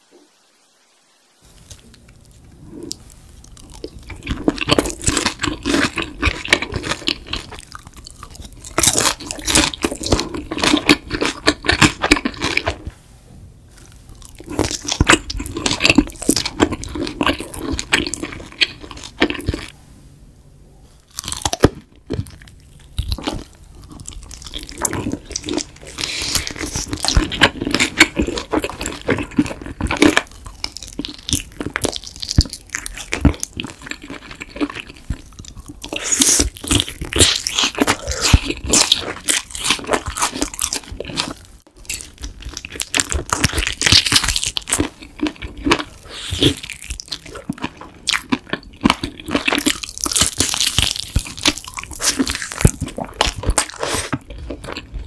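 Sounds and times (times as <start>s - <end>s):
crunchy chewing of fried chicken: 1.6s - 13.0s, 13.7s - 19.8s, 21.0s - 55.0s.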